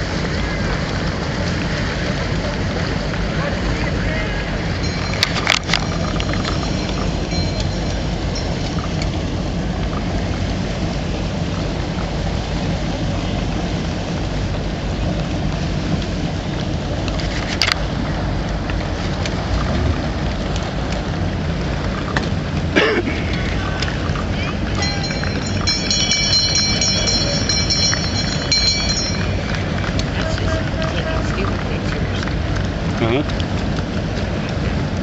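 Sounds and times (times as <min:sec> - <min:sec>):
boat engine rumble: 0:00.0 - 0:35.0.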